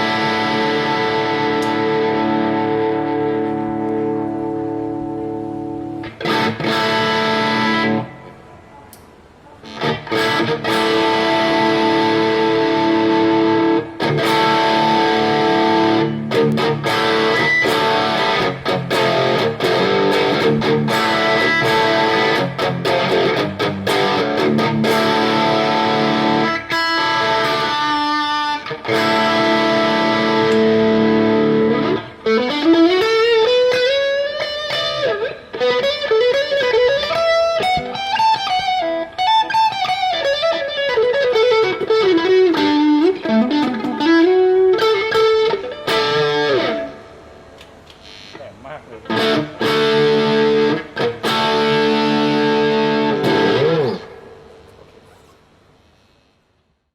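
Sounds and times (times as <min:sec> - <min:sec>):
electric guitar chords and riffs: 0:00.0 - 0:08.7, 0:09.6 - 0:48.2, 0:48.9 - 0:55.7.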